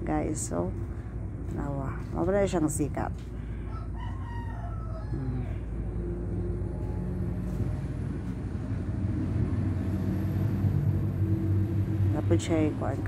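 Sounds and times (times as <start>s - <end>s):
engine hum: 0.0s - 4.0s, 4.8s - 13.0s.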